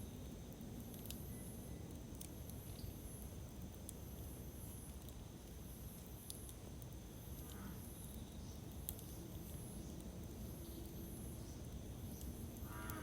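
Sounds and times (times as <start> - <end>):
campfire crackling and popping: 0.2 - 13.0.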